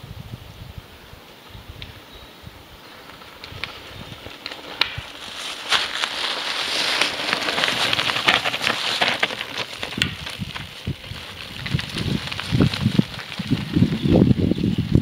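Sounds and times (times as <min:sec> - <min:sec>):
bike tyres crunching over gravel: 0:02.6 - 0:15.0.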